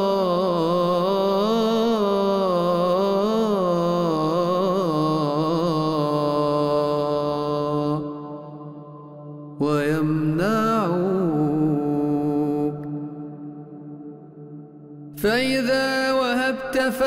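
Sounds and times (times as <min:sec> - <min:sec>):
man singing: 0:00.0 - 0:14.4, 0:15.1 - 0:17.0.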